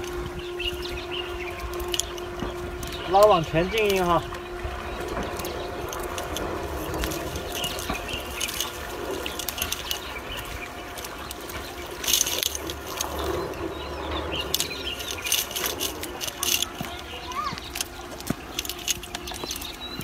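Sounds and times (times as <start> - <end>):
sinkers clicking: 0.0 - 20.0
water sounds: 0.0 - 20.0.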